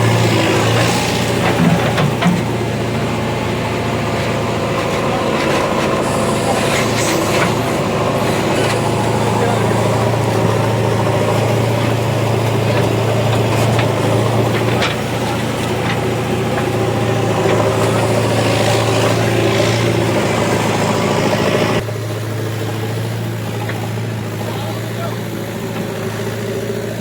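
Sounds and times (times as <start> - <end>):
diesel machine engine running: 0.0 - 27.0.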